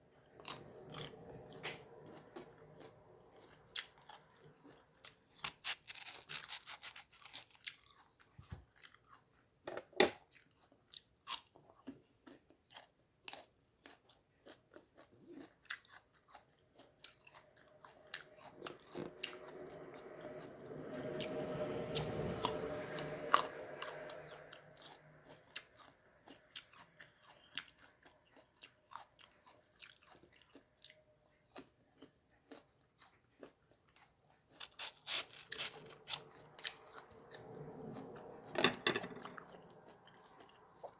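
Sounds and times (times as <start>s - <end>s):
mango being bitten and chewed: 0.0s - 9.6s, 10.2s - 38.6s, 39.2s - 40.9s.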